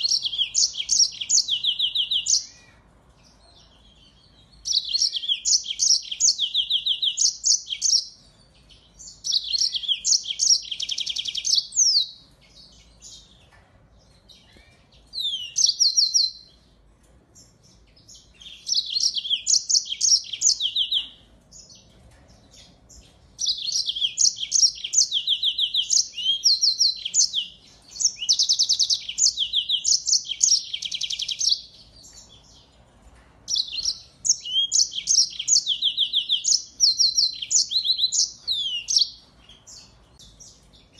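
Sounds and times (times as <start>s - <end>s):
finch song with rapid trills: 0.0s - 40.9s.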